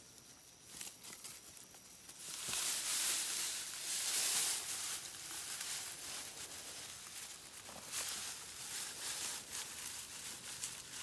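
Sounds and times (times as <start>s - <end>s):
straw rustling and crackling: 0.6s - 11.0s.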